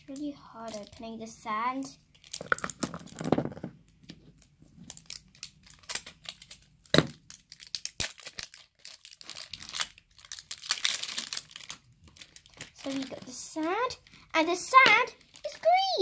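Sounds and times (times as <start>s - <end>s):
plastic packet crinkling and tearing: 0.0s - 1.4s, 2.1s - 3.2s, 4.4s - 16.0s.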